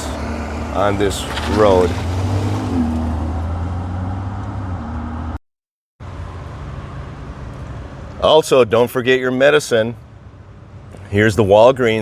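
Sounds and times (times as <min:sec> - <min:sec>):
car road and engine noise: 0:00.0 - 0:05.4, 0:06.0 - 0:12.0.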